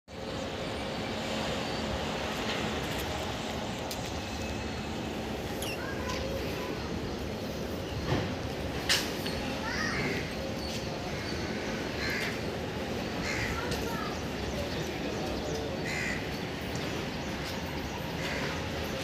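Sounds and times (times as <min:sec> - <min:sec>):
freight train rumbling past: 0:00.1 - 0:19.0.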